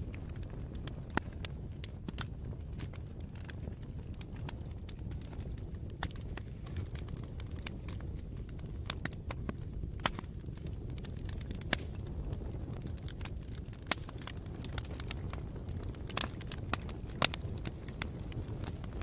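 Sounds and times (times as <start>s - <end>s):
burning wood popping and crackling: 0.0s - 19.0s
campfire rumbling: 0.0s - 19.0s.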